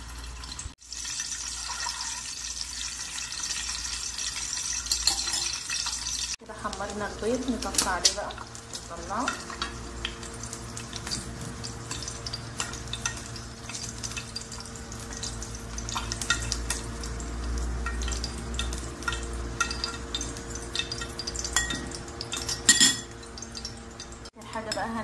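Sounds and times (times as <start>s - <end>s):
eggs sizzling in hot oil: 0.0s - 25.0s.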